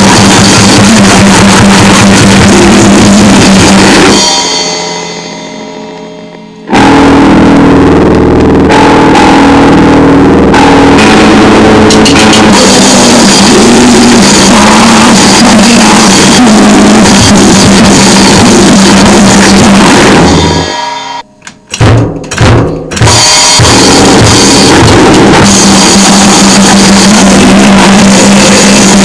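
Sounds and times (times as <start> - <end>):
pounding drums: 0.0 - 6.0, 6.6 - 29.0
heavily distorted noise: 0.0 - 29.0.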